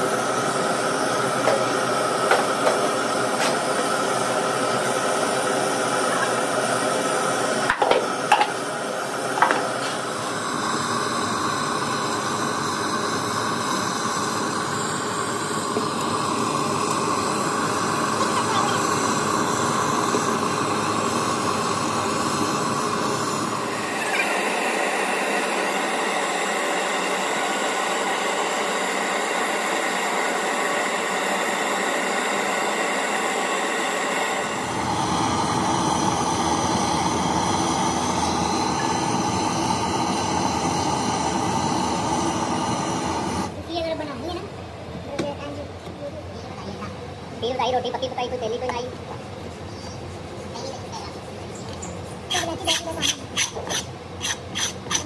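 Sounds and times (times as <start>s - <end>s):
blowtorch flame rushing: 0.0s - 44.1s, 51.2s - 55.0s.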